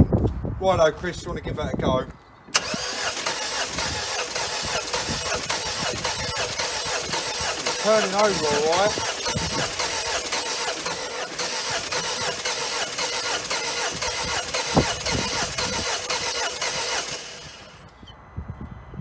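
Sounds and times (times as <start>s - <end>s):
engine cranking on starter: 2.5s - 18.0s.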